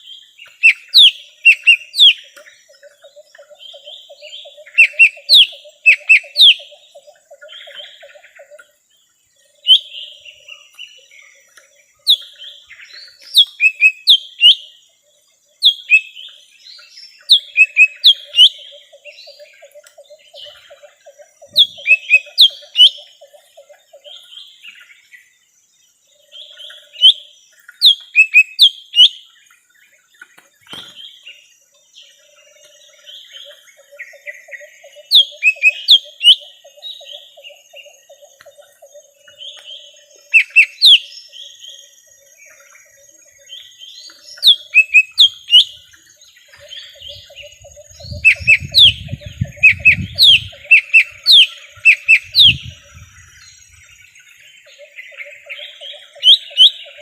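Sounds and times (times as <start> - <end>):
bird singing whistled notes: 0.0 - 8.8, 9.4 - 57.0.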